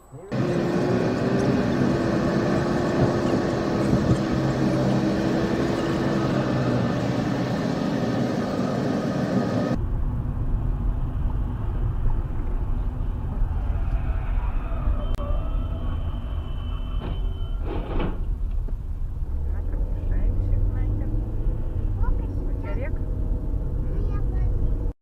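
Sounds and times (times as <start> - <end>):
low road rumble: 0.0 - 25.0
road noise: 0.0 - 25.0
vehicle engine hum: 0.0 - 25.0.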